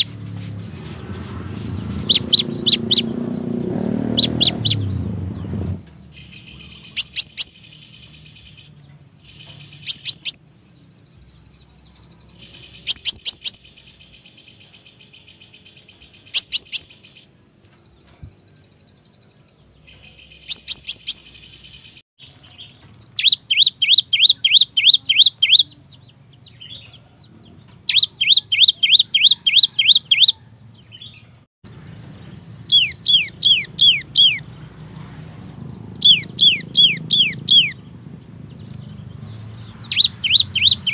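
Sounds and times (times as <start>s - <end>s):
bird whistling song: 0.0s - 35.0s, 35.6s - 40.9s.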